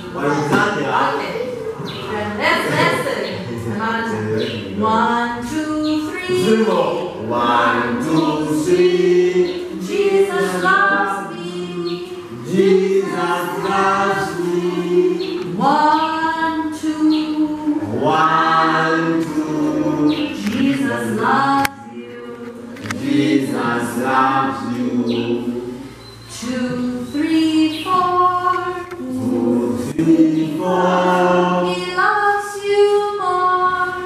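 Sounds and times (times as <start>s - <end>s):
children singing together: 4.2s - 34.0s.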